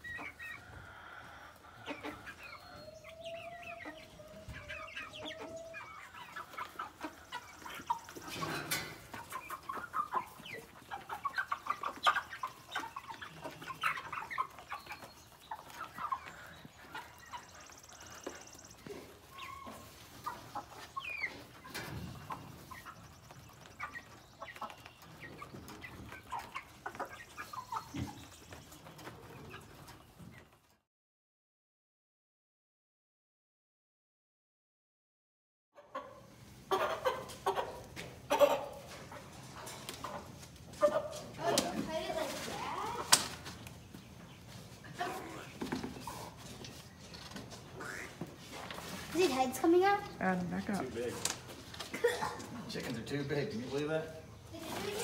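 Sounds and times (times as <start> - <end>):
chickens clucking and peeping: 0.0 - 30.8, 35.8 - 55.0.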